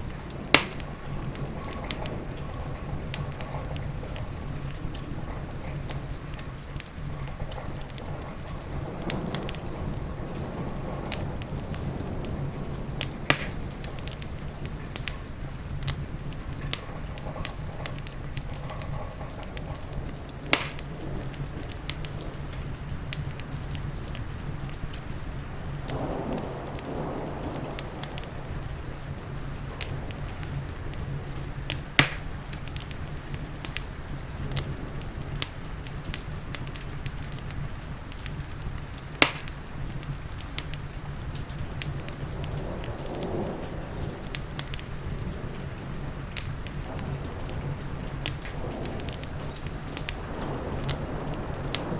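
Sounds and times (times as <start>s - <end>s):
rain hissing: 0.0s - 51.9s
wood fire crackling: 0.0s - 51.9s.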